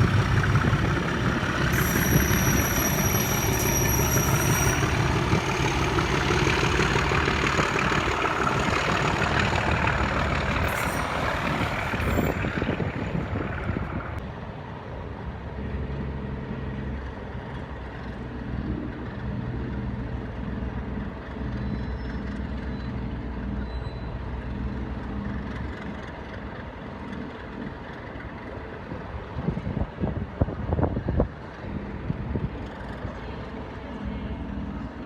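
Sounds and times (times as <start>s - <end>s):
locomotive diesel engine drone: 0.0s - 35.0s.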